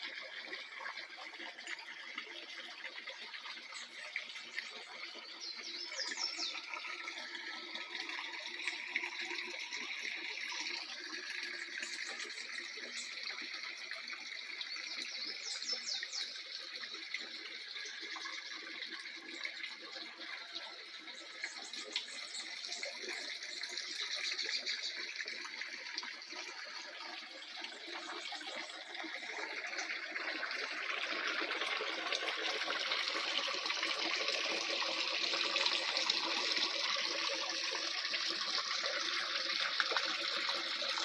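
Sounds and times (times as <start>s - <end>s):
water flowing and splashing: 0.0s - 41.0s.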